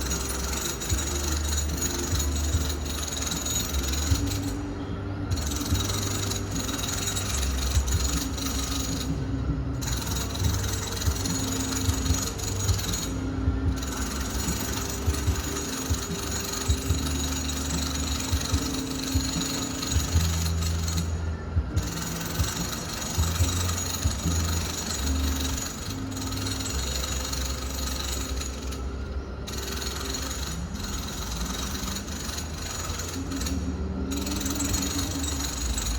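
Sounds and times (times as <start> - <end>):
power tool humming through walls: 0.0 - 35.9.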